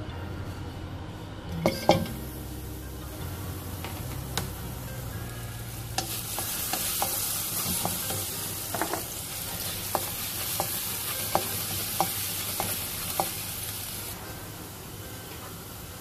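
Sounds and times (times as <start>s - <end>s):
garlic sizzling in a wok: 1.6s - 16.0s.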